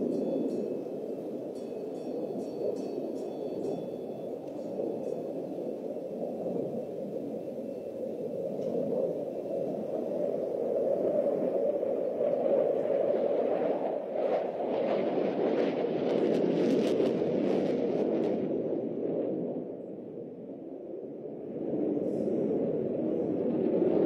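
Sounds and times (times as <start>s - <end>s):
jet engine rumbling in flight: 0.0s - 24.0s.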